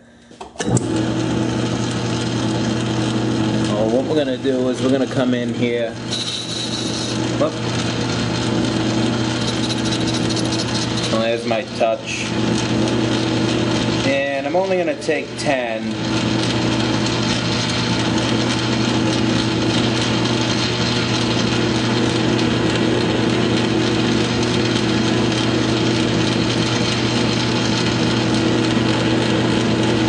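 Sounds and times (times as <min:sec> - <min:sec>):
lathe running: 0:00.6 - 0:30.0.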